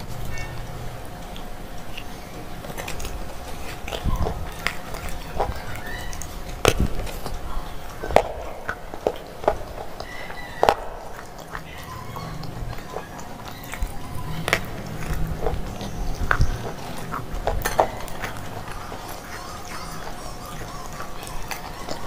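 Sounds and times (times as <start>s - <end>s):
crunchy biting and chewing: 0.0s - 22.0s.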